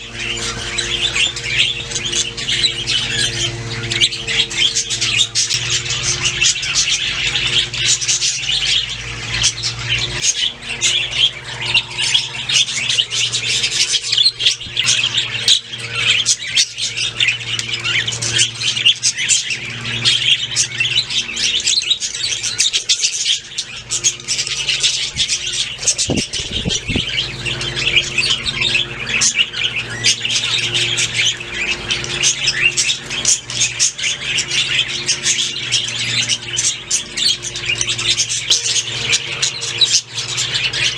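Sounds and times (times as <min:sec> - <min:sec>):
budgerigars chattering and chirping: 0:00.0 - 0:40.9
steady low hum: 0:00.0 - 0:40.9.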